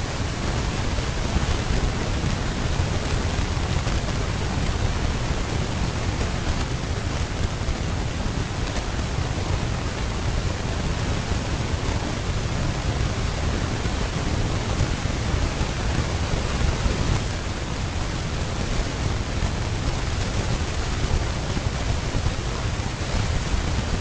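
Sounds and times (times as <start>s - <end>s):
rushing noise with low rumble: 0.0s - 24.0s.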